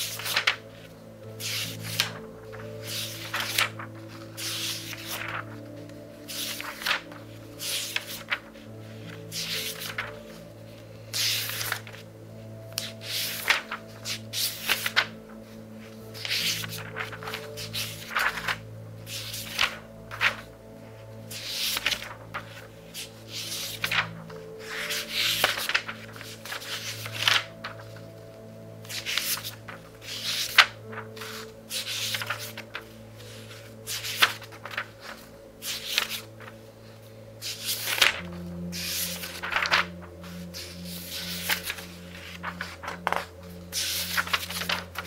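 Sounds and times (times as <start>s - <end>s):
book pages turning: 0.0s - 45.0s
soft background music: 0.0s - 45.0s.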